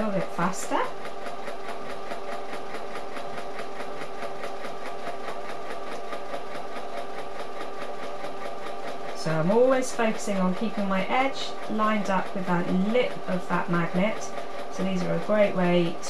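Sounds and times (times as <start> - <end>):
sewing machine running: 0.0 - 16.0.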